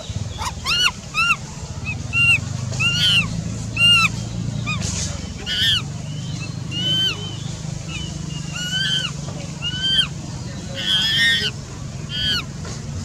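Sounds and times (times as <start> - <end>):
high-pitched animal calls: 0.0 - 12.5
low steady hum: 0.0 - 13.0.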